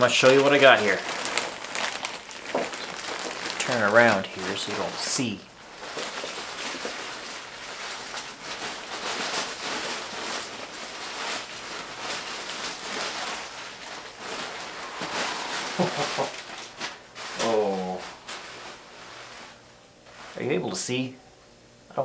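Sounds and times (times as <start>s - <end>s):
plastic packaging crinkling: 0.0s - 20.9s.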